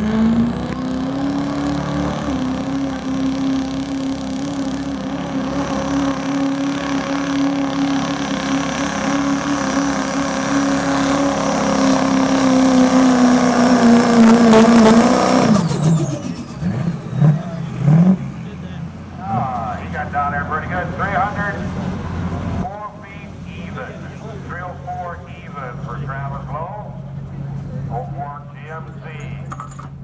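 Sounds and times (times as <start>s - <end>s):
diesel engine at full throttle: 0.0s - 30.0s.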